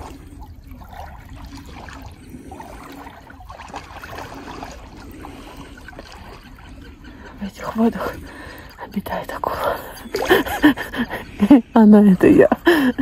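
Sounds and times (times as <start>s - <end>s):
river water lapping and sloshing: 0.0s - 13.0s.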